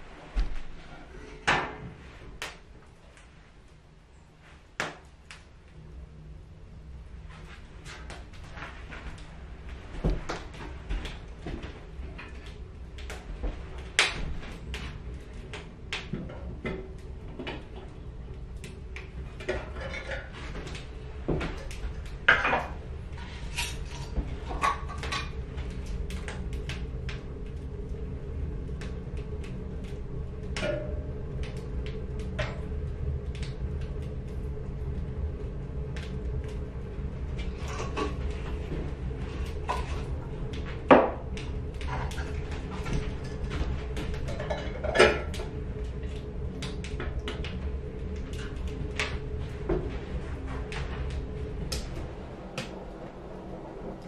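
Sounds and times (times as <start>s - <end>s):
steady low hum: 0.0s - 54.0s
stove clicks and crackles: 7.2s - 54.0s.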